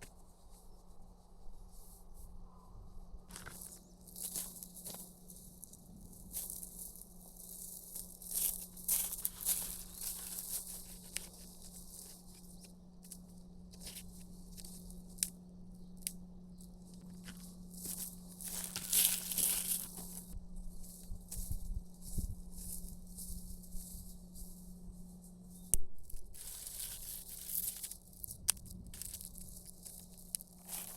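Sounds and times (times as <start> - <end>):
steady low hum: 0.0 - 30.9
rustling and crinkling: 3.3 - 30.9.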